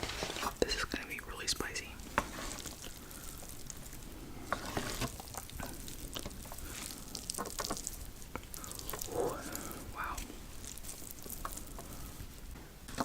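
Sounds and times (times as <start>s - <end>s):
noodles being mixed and eaten: 0.0s - 13.0s
sticky crackles and clicks: 0.0s - 13.0s.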